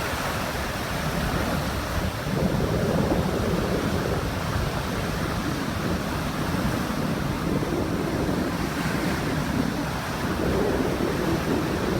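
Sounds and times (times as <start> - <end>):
sea waves washing in: 0.0 - 11.9.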